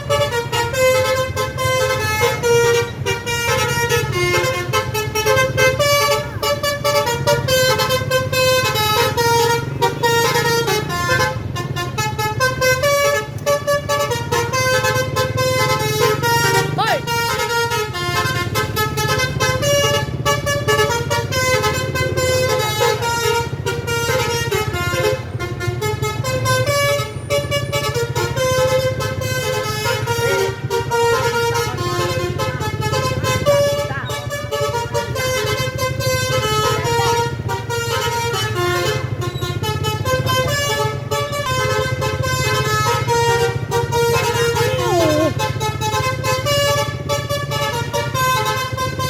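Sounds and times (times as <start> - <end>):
multi-tone air horn melody: 0.0 - 49.0.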